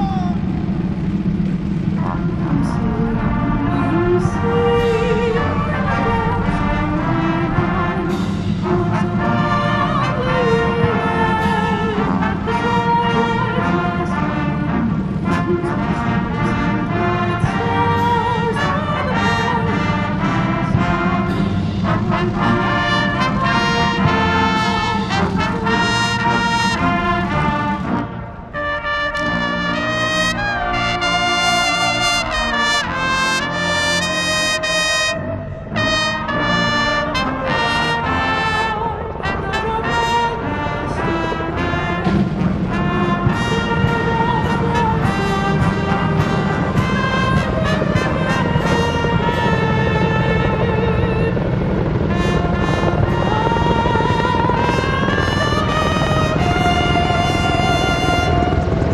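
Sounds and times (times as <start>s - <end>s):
brass music: 0.0s - 58.9s
dense low rumble: 0.0s - 58.9s.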